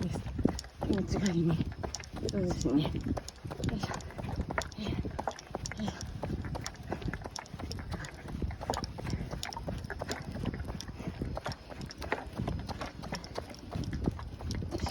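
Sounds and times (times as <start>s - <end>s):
running footsteps: 0.0s - 14.9s
wind buffeting microphone: 0.0s - 14.9s.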